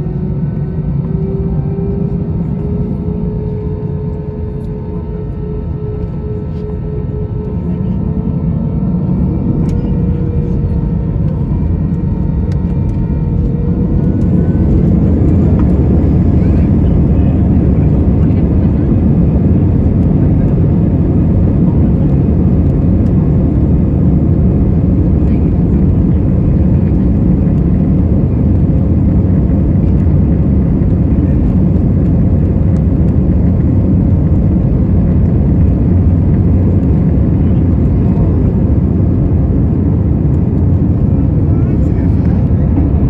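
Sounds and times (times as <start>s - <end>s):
jet engine roar in cabin: 0.0s - 43.0s.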